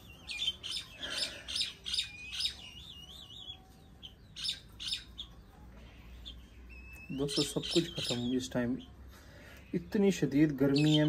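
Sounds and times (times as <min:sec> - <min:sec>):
birds squawking: 0:00.0 - 0:03.6, 0:04.2 - 0:05.4, 0:06.1 - 0:11.0.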